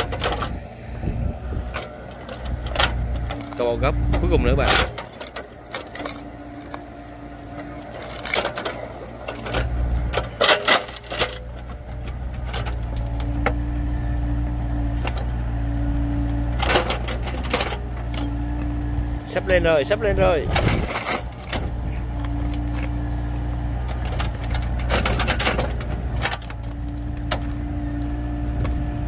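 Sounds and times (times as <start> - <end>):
excavator engine running: 0.0 - 29.0
hydraulic whine: 0.0 - 29.0.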